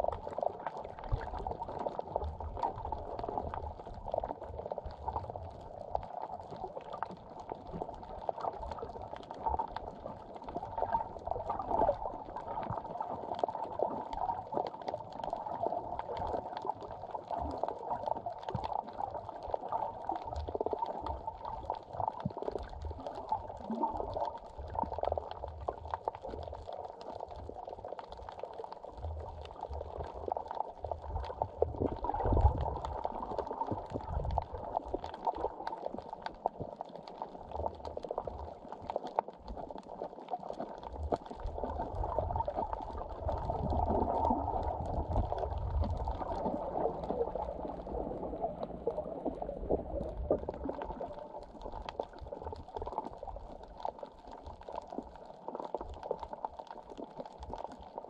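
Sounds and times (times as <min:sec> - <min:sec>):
underwater bubbling and sloshing: 0:00.0 - 0:58.0.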